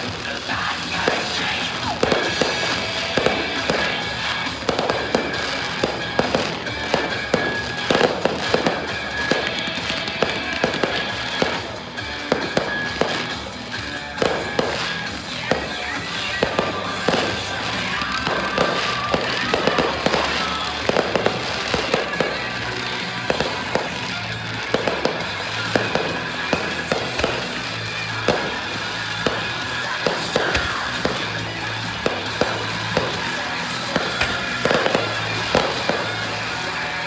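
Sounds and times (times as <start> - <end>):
fireworks bangs: 0.0 - 37.0
music playing: 0.0 - 37.0.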